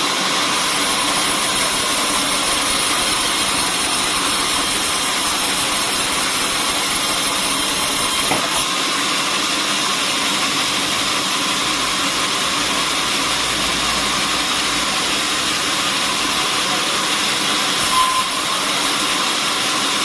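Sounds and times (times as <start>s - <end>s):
sawmill saw cutting wood: 0.0s - 20.0s.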